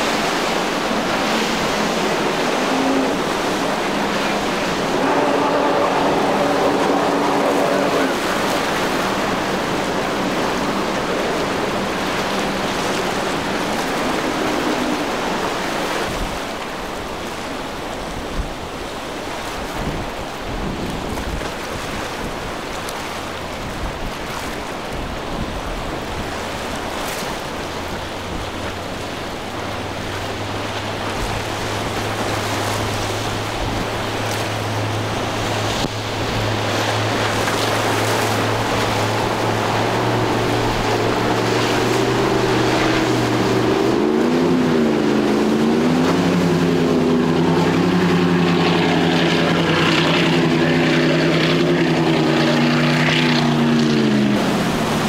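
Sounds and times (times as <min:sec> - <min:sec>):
motorboat engine hum: 0:00.0 - 0:55.0
powerboat engines droning: 0:00.0 - 0:55.0
water rushing and waves: 0:00.0 - 0:55.0
wind: 0:00.0 - 0:55.0.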